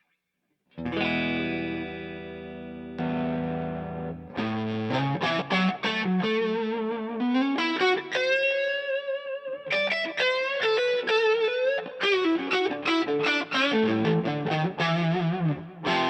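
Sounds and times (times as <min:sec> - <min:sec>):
distorted electric guitar lead: 0:00.8 - 0:16.0.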